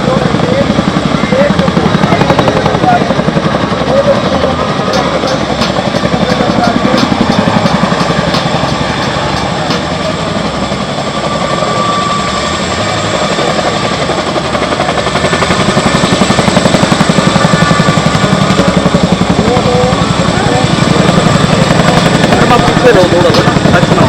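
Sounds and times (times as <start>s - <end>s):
helicopter rotors beating: 0.0s - 24.0s.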